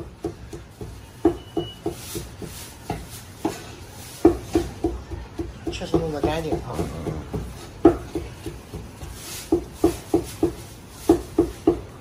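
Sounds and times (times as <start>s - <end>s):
cleaver chopping on cutting board: 0.0s - 11.9s.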